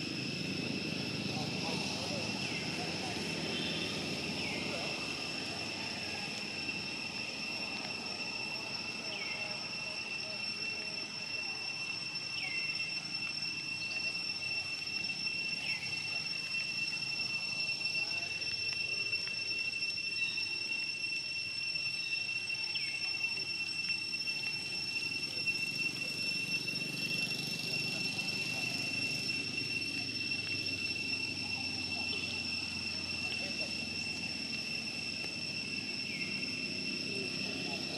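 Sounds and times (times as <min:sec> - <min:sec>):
high-pitched insect drone: 0:00.0 - 0:37.9.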